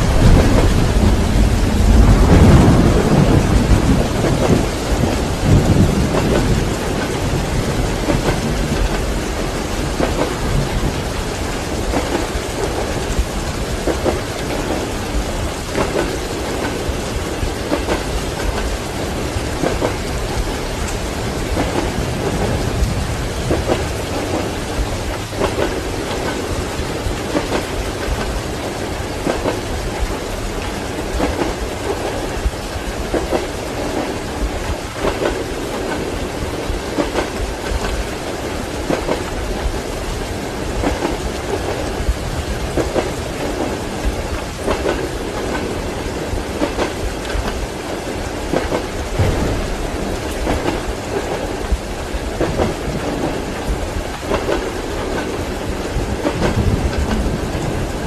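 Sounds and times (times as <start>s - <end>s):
heavy rain: 0.0s - 58.0s
thunder rumbling: 0.0s - 58.0s
train wheels on rails: 0.0s - 58.0s.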